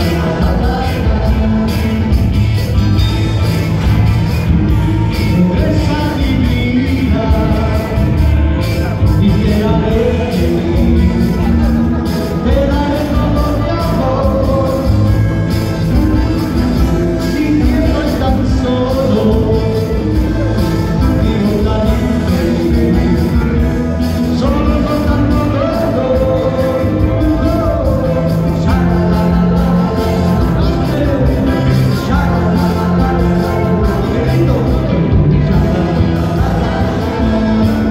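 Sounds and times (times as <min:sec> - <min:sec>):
man singing into microphone: 0:00.0 - 0:03.8, 0:05.0 - 0:37.9
drums: 0:00.0 - 0:37.9
electric guitar: 0:00.0 - 0:37.9.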